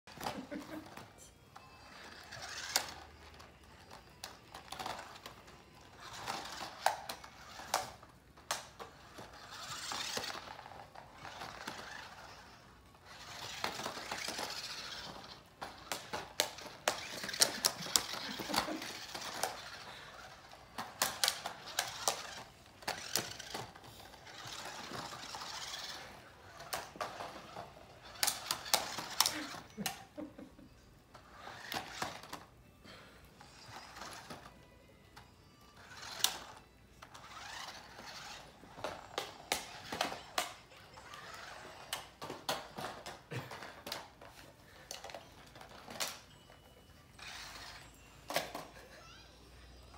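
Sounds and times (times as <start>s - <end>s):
toy car motor whirring: 0.1s - 30.2s, 31.1s - 32.5s, 33.4s - 49.9s.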